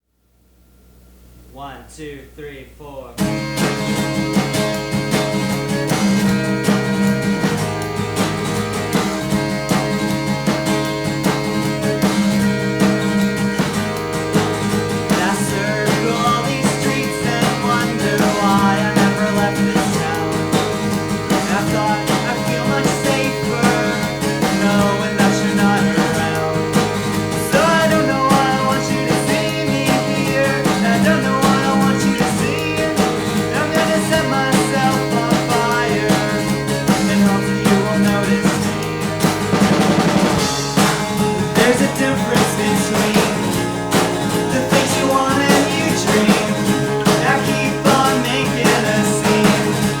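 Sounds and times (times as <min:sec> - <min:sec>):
rock band playing: 0:03.2 - 0:50.0.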